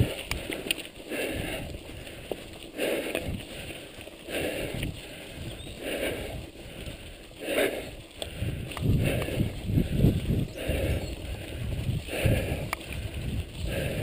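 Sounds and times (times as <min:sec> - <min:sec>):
tyres crunching on stones: 0:00.0 - 0:13.7
bike rattling: 0:00.0 - 0:14.0.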